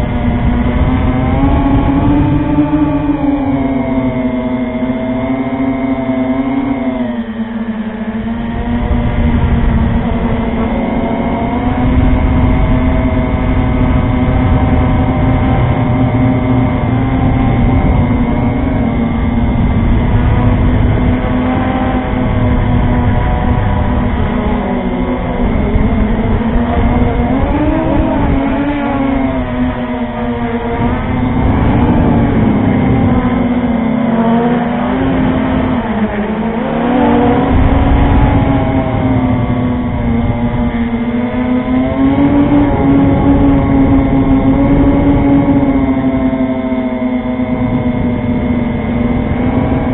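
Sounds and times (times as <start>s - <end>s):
drone motors buzzing whine: 0.0s - 49.9s
rough low rumble: 8.2s - 49.9s.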